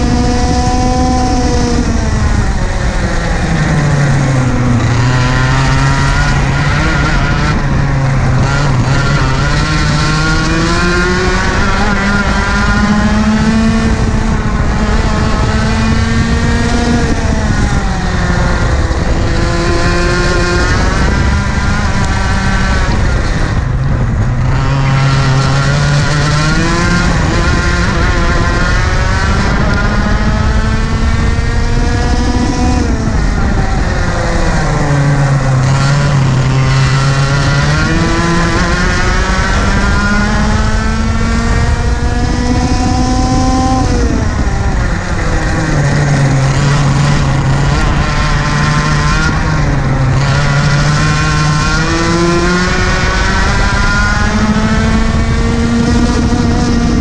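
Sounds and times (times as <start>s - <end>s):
kart engine at racing speed: 0.0s - 57.0s.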